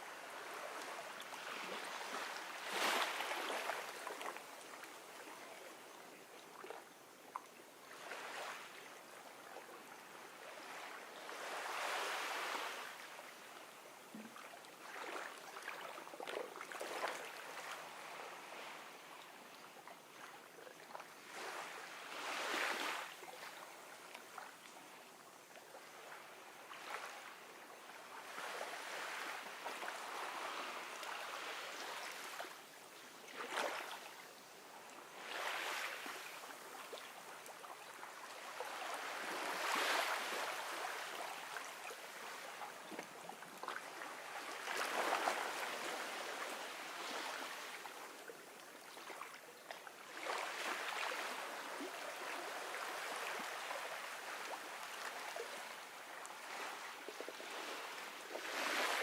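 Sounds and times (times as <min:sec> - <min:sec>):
ocean waves lapping on beach: 0:00.0 - 0:59.0.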